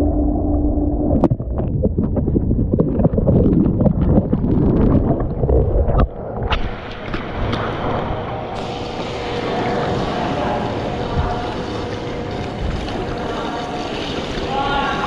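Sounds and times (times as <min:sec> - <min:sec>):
muffled underwater bubbling: 0:01.1 - 0:15.0
pool water splashing: 0:02.2 - 0:15.0.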